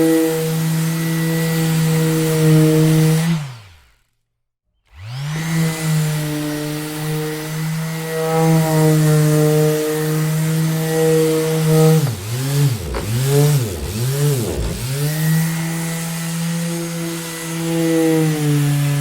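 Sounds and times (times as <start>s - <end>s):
electric sander running: 0.0s - 4.1s, 4.9s - 19.0s.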